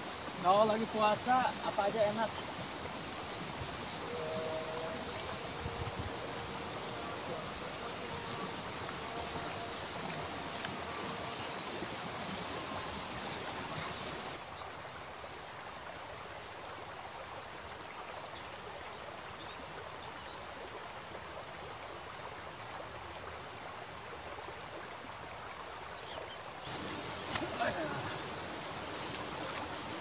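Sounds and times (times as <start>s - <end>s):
high-pitched insect trill: 0.0s - 30.0s
soft outdoor hiss: 0.0s - 30.0s.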